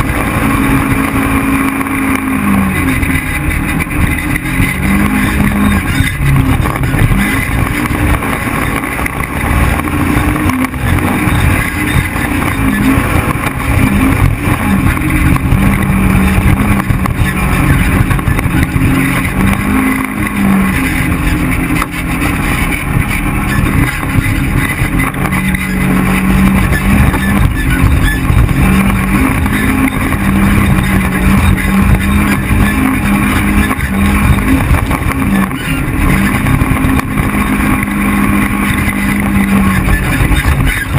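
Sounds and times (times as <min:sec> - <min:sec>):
utility vehicle engine revving: 0:00.0 - 0:40.9.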